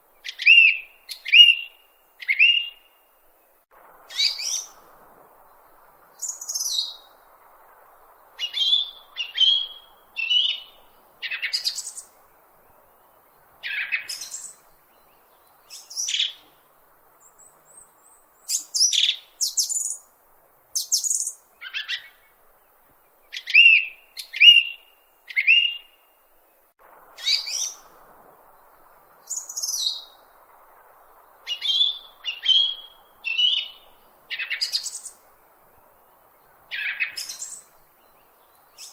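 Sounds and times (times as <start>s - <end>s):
bird chirping: 0.2s - 3.5s, 4.1s - 4.8s, 5.4s - 7.3s, 8.0s - 20.1s, 20.8s - 26.6s, 27.2s - 38.9s.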